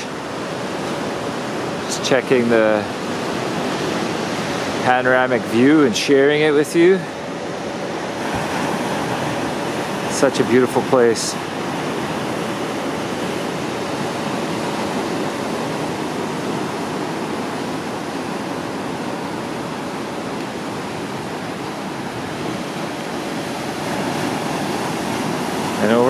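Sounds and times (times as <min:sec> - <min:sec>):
surf breaking over rocks: 0:00.0 - 0:26.0.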